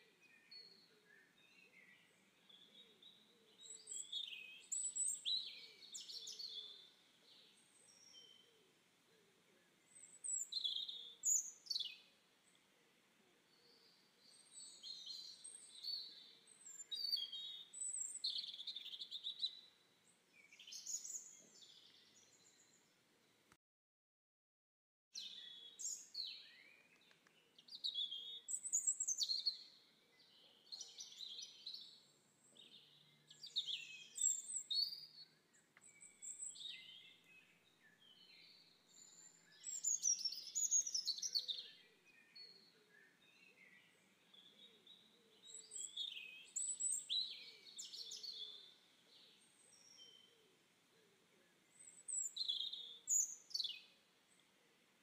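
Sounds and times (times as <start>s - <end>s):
songbirds chirping and whistling: 0.0s - 12.7s, 13.4s - 23.0s, 25.2s - 54.5s.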